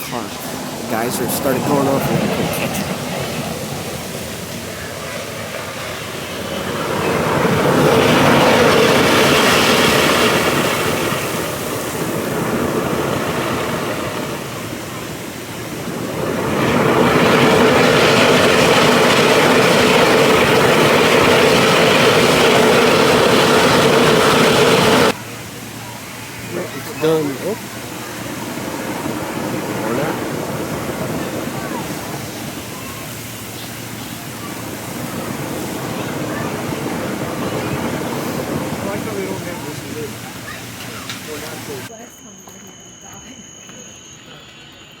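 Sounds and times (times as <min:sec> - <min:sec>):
geyser water jet rushing: 0:00.0 - 0:41.9.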